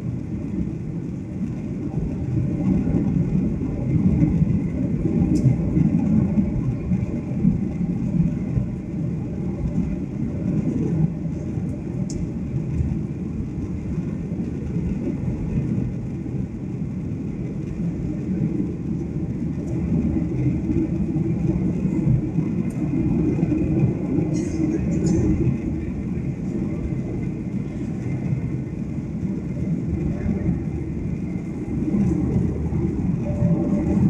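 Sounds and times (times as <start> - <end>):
airplane cabin jet engine rumble: 0.0 - 34.0.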